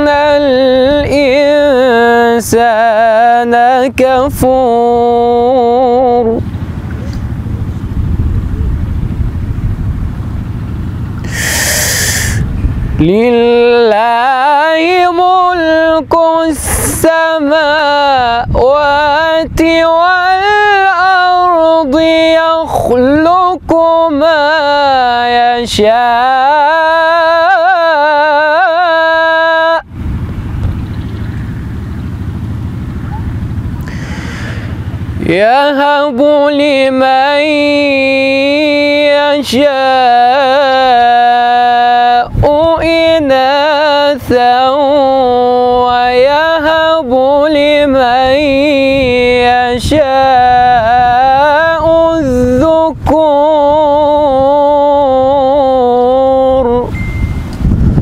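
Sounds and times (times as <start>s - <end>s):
man reciting in long ornamented note: 0.0s - 6.8s, 13.0s - 29.9s, 33.9s - 57.0s
low rumbling noise: 0.0s - 58.0s.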